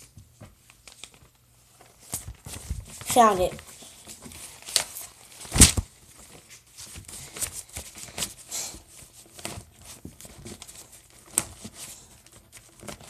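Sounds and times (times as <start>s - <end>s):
paper rustling: 0.4s - 13.0s.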